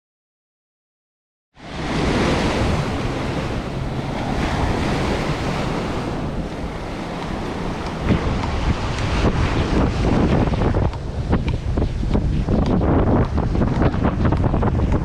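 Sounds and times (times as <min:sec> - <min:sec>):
ocean surf on beach: 0:01.6 - 0:15.0
wind buffeting microphone: 0:01.6 - 0:15.0.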